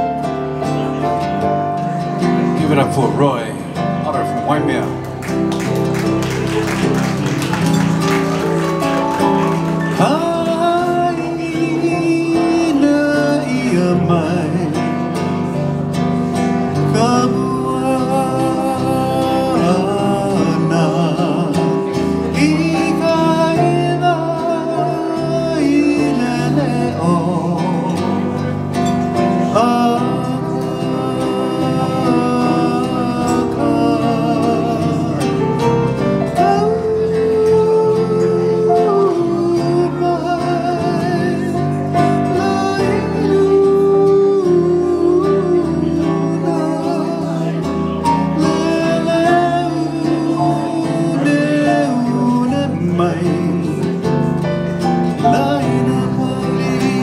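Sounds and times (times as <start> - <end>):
strummed acoustic guitar: 0.0 - 57.0
man singing slow song: 9.8 - 57.0.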